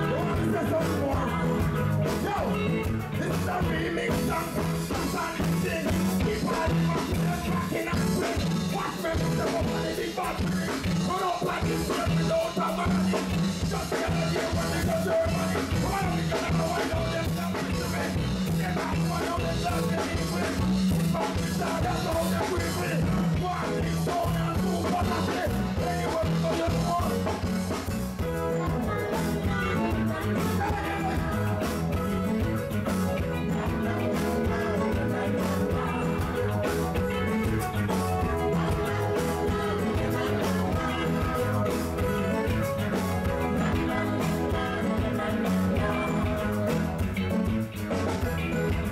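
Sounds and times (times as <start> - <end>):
reggae music: 0.0 - 48.9
repeating bass line: 0.0 - 48.9.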